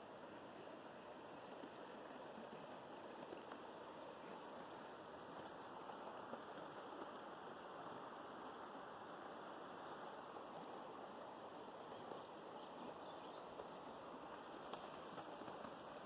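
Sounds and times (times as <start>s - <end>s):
river flowing: 0.0s - 16.0s.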